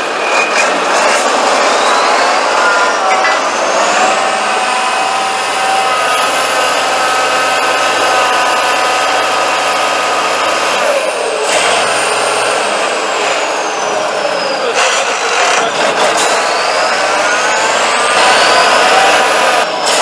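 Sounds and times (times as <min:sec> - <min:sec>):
diesel truck engine working hard: 0:00.0 - 0:20.0
high whine: 0:00.0 - 0:20.0.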